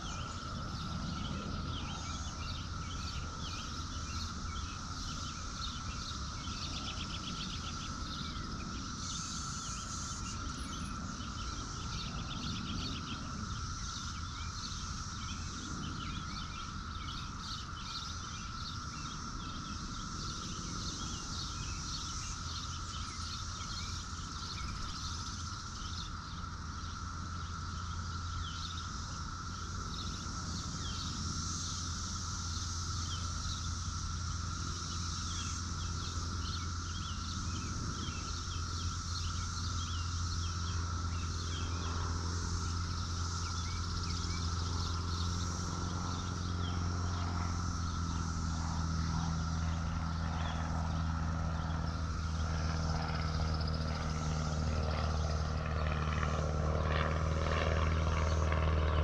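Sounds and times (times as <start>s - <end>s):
bird or insect chirps: 0.0s - 59.0s
low hum: 0.0s - 59.0s.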